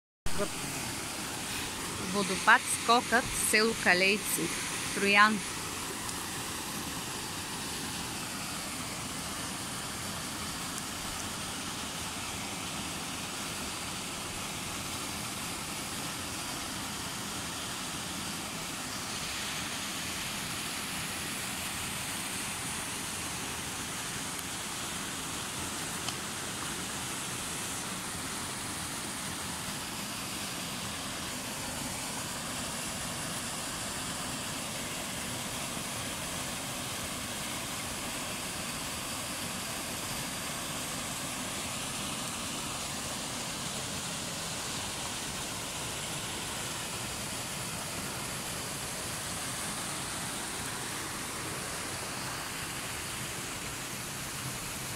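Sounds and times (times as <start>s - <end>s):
waterfall and stream rushing: 0.3s - 54.9s.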